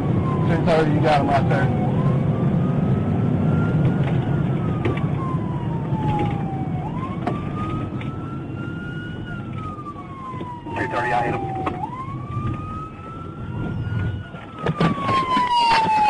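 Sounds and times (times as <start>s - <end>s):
car engine and tyres rumbling: 0.0s - 16.0s
police siren wailing: 0.0s - 16.0s.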